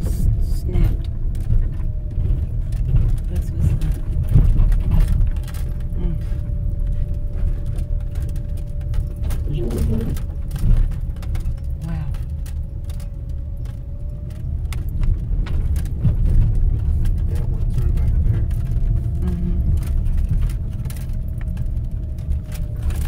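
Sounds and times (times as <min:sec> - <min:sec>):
tyres and engine rumbling: 0:00.0 - 0:23.0
clicks and rattles: 0:00.2 - 0:23.0.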